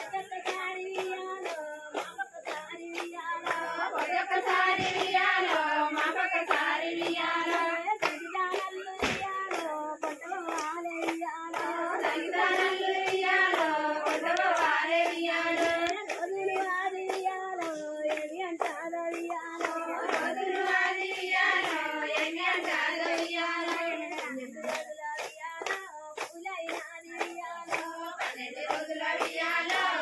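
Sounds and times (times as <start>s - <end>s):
hands clapping in rhythm: 0.0s - 30.0s
women singing folk song: 0.0s - 30.0s.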